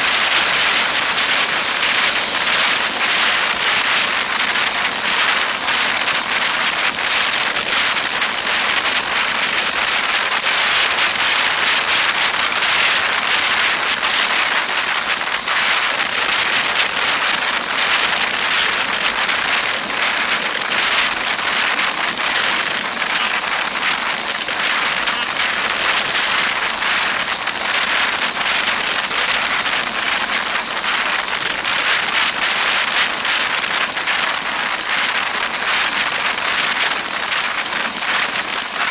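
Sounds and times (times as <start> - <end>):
tyres rolling on asphalt: 0.0 - 38.9
wind over camera: 0.0 - 38.9.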